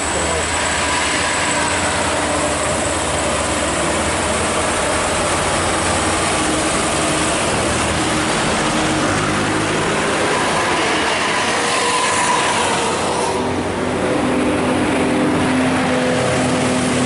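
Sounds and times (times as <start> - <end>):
heavy vehicles running: 0.0 - 17.0
tyre and traffic rush: 0.0 - 17.0.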